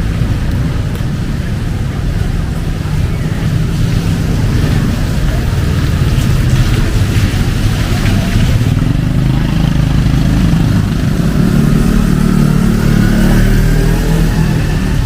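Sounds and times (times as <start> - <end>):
heavy rain hiss: 0.0 - 15.0
vehicle engine running: 0.0 - 15.0.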